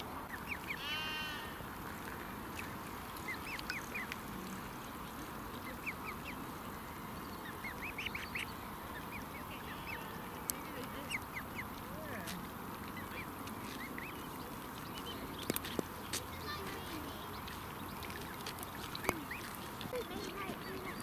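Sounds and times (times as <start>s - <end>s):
background hiss: 0.0s - 21.0s
ducklings peeping: 0.0s - 21.0s
ducks calling: 0.0s - 21.0s.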